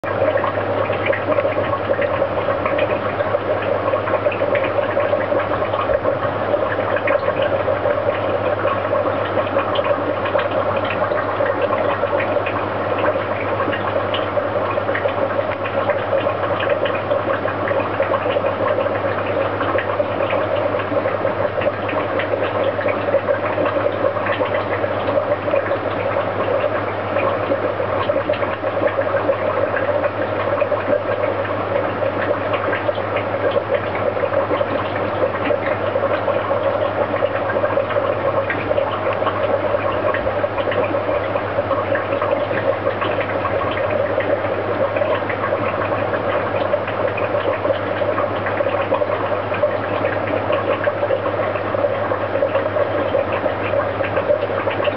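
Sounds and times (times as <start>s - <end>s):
aquarium air bubbling: 0.0s - 54.9s.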